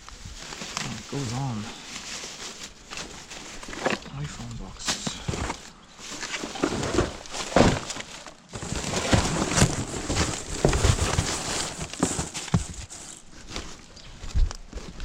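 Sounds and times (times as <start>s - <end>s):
rustling through rubbish bags: 0.0s - 15.0s.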